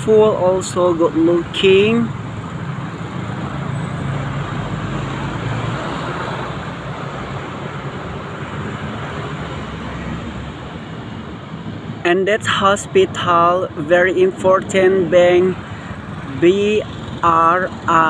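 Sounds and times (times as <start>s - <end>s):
road noise hiss: 0.0s - 18.0s
vehicle engine hum: 0.0s - 18.0s.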